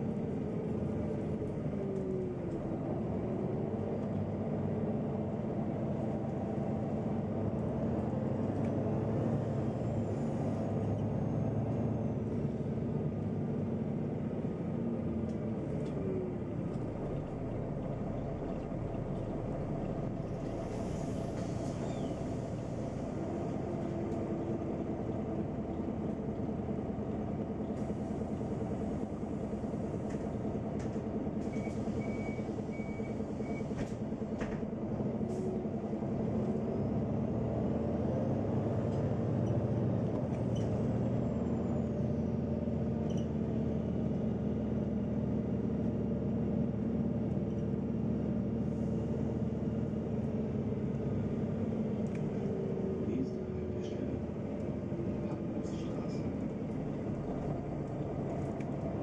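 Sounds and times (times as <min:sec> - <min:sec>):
bus engine hum: 0:00.0 - 0:59.0.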